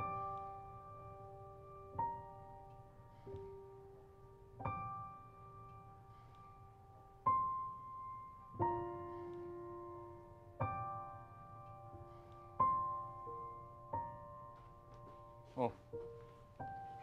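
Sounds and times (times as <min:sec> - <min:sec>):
slow soft piano: 0:00.0 - 0:17.0.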